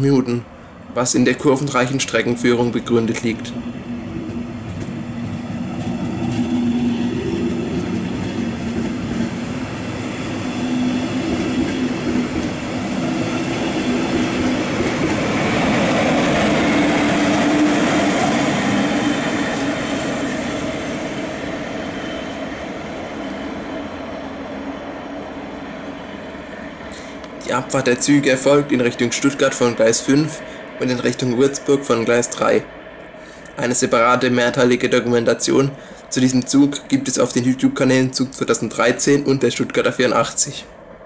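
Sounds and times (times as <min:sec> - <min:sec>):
train wheels on rails: 0:01.4 - 0:41.0.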